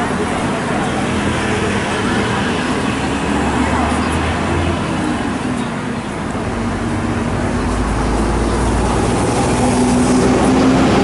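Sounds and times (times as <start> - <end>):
cars passing close by: 0.0 - 11.0.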